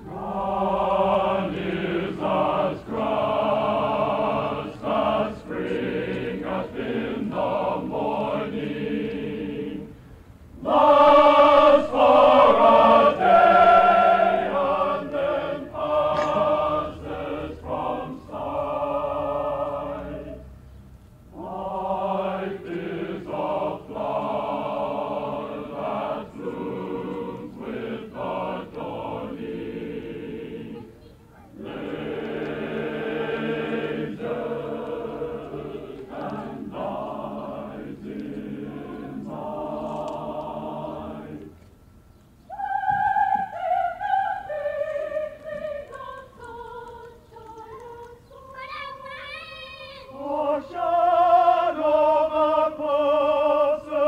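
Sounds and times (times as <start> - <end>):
choir singing in parts: 0.0 - 20.6, 21.3 - 41.8, 42.4 - 54.0.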